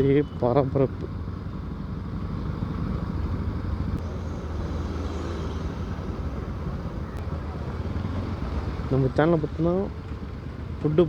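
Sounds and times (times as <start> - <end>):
motorcycle engine rumbling: 0.0 - 11.0
road and wind noise: 0.0 - 11.0.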